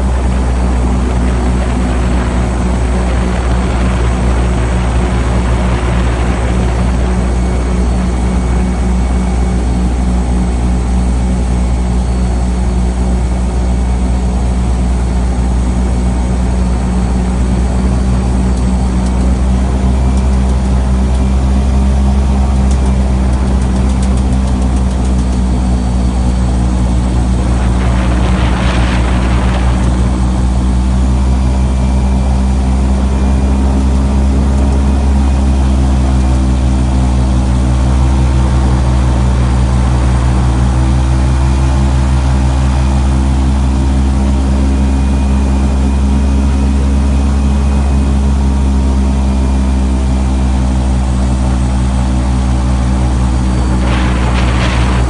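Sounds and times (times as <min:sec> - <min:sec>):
airboat engine running: 0:00.0 - 0:55.0.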